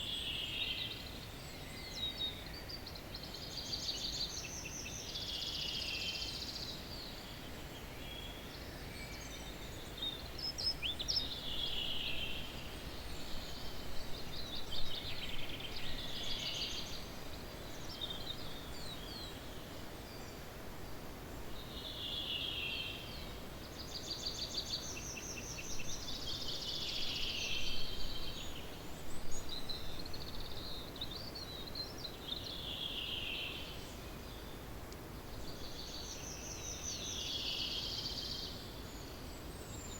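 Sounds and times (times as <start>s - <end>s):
low background hiss: 0.0s - 39.9s
songbirds singing: 0.0s - 39.9s.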